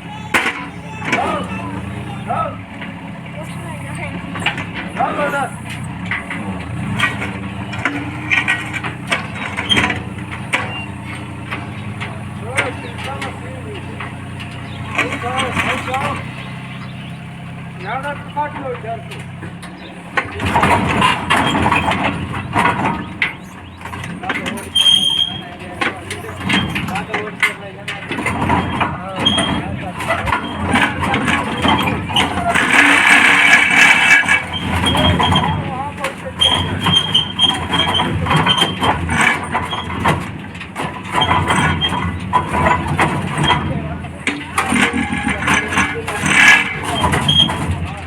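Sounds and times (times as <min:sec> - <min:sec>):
diesel engine under load: 0:00.0 - 0:48.0
knocks and clatter: 0:00.1 - 0:48.0.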